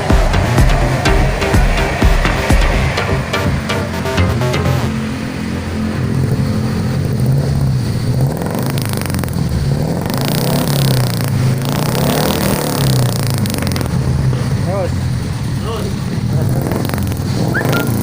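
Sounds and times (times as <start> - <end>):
car engine exhaust revving: 0.0 - 18.0.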